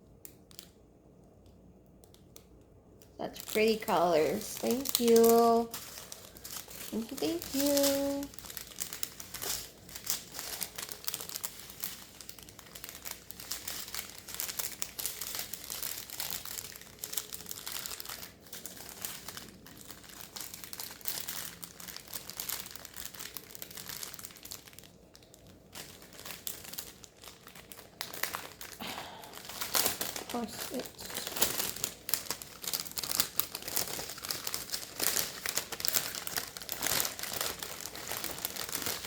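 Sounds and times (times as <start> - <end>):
plastic packaging crinkling: 1.4 - 39.0.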